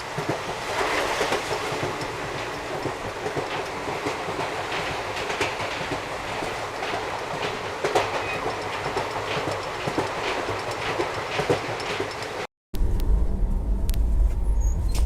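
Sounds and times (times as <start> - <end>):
wheels clattering over rail joints: 0.0 - 12.5
train rumble: 0.0 - 15.0.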